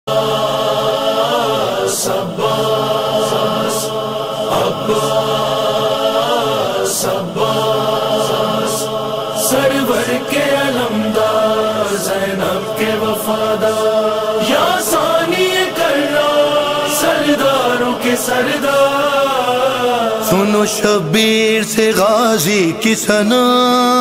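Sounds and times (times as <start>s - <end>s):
voices chanting long sung notes: 0.1s - 24.0s.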